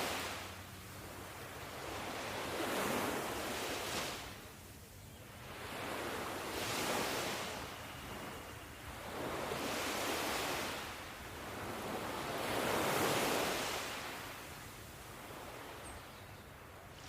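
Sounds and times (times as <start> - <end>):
ocean surf waves: 0.0 - 15.9, 16.6 - 17.0.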